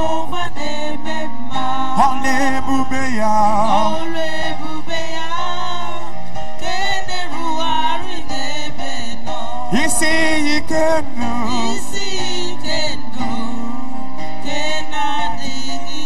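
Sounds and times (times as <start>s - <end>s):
gospel singing: 0.0s - 16.0s.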